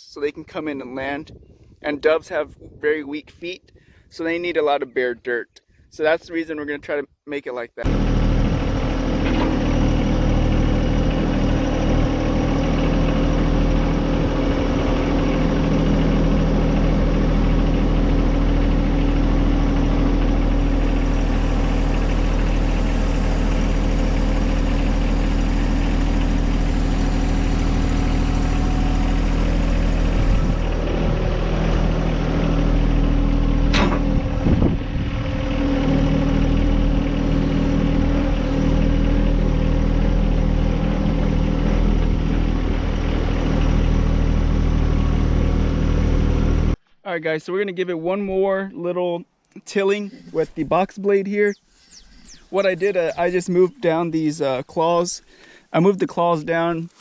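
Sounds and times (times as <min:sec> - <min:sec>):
tractor engine running: 0:07.8 - 0:46.9, 0:50.0 - 0:57.0.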